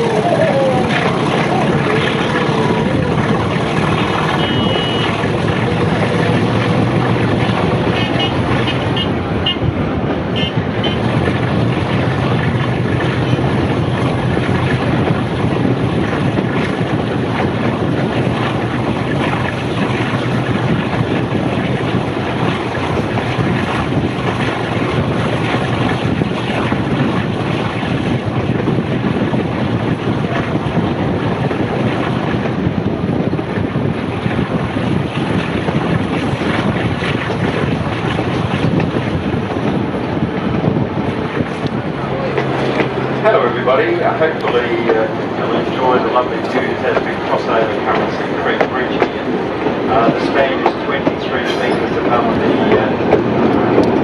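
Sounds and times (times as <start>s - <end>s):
train carriage rumbling on rails: 0.0s - 54.0s
wind noise: 0.0s - 54.0s.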